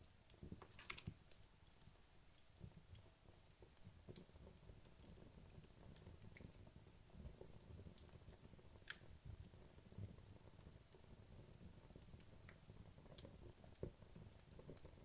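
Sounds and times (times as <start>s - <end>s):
logs burning in fireplace: 0.0s - 15.0s.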